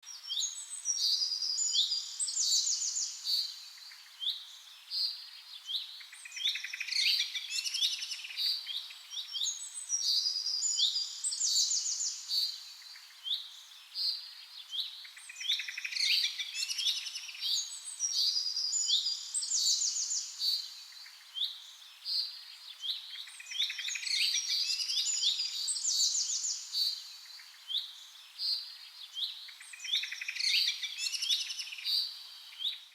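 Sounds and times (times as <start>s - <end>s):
songbirds chorus: 0.0s - 32.9s.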